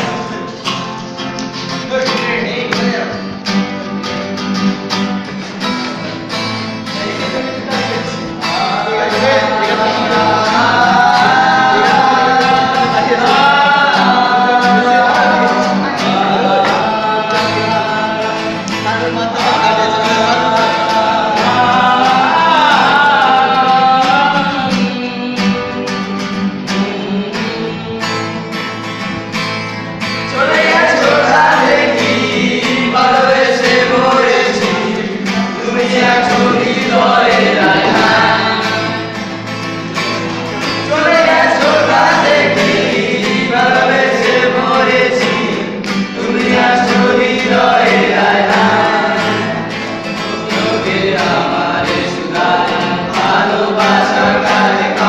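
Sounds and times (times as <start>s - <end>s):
acoustic guitar strumming: 0.0s - 55.0s
boys singing together: 0.0s - 55.0s.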